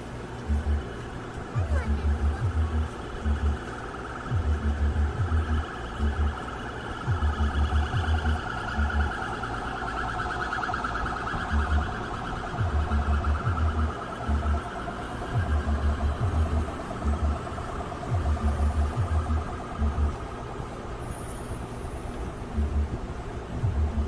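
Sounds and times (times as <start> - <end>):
repeated low thumps: 0.0 - 20.4, 22.4 - 24.0
pulsing alarm siren: 0.0 - 24.0.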